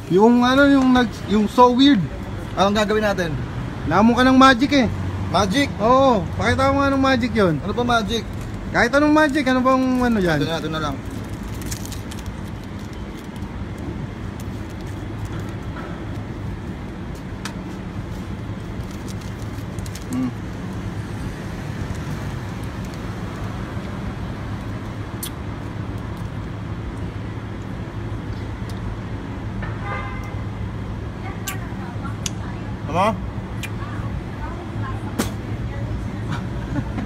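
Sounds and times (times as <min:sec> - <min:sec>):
street traffic hum: 0:00.0 - 0:37.0.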